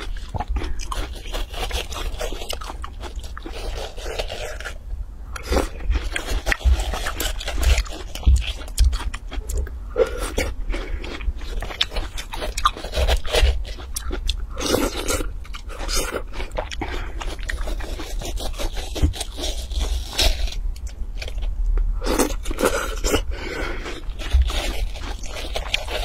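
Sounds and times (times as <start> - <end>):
wet crunching and chewing: 0.0 - 26.0.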